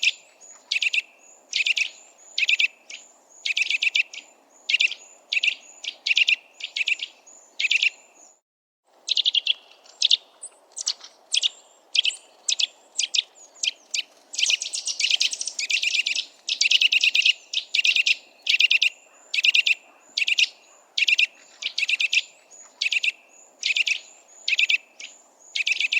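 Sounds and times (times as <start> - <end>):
bird piping calls: 0.0 - 8.4, 9.0 - 25.9.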